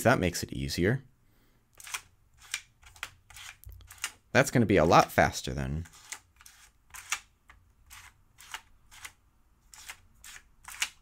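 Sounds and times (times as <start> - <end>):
puzzle tiles sliding and clicking: 1.8 - 11.0.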